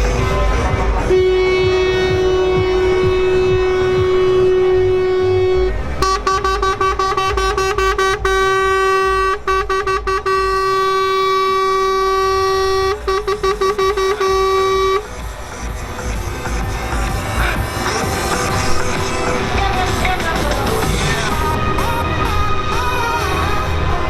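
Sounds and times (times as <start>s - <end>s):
multi-tone horn short toots: 0.1s - 23.6s
truck air horn blast: 0.2s - 24.0s.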